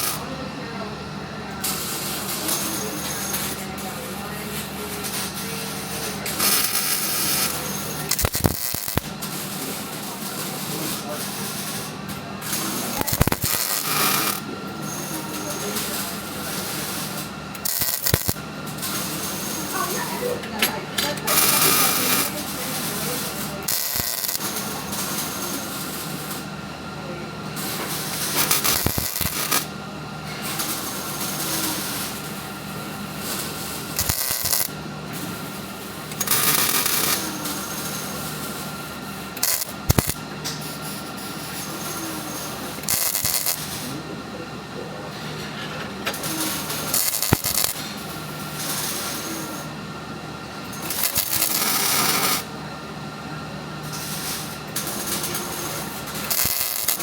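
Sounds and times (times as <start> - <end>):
welder arc crackling: 0.0 - 0.2, 4.6 - 20.4, 21.0 - 26.5, 27.6 - 29.8, 30.4 - 44.0, 46.1 - 49.7, 50.7 - 52.5, 53.9 - 57.0
steady low hum: 0.0 - 57.0.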